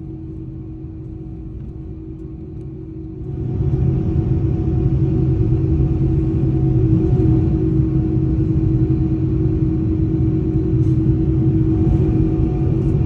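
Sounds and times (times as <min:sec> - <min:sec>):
jet engines heard from cabin: 0:00.0 - 0:13.0.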